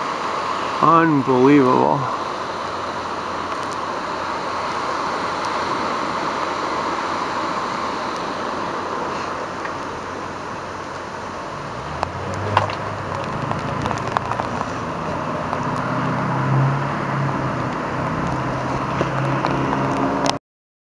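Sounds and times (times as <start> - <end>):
river rushing: 0.0 - 20.4
vehicle engine passing: 1.9 - 20.4.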